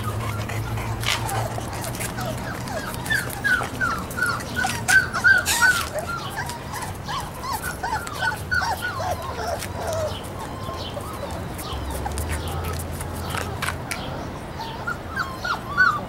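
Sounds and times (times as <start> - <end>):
puppies whining: 0.0 - 13.7, 14.3 - 16.0.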